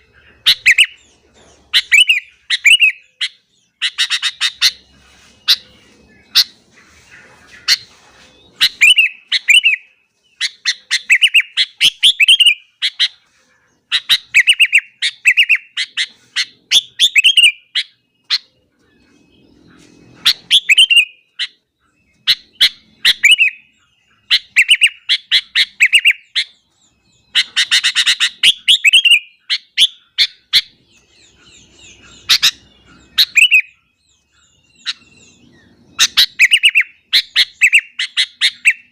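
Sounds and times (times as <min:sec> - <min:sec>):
bulbul singing: 0:00.0 - 0:38.9.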